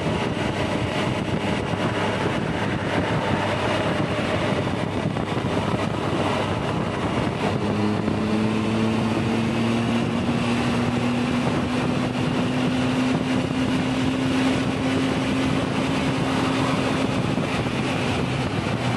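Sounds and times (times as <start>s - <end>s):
low hum rising in pitch: 0.0s - 18.9s
motorcycle engine hum: 0.0s - 18.9s
wind rush on microphone: 0.0s - 18.9s.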